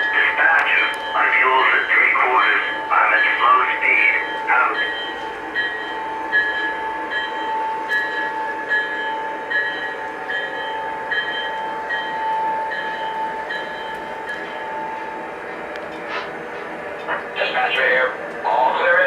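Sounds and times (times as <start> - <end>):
regular clicks of train: 0.0 - 19.0.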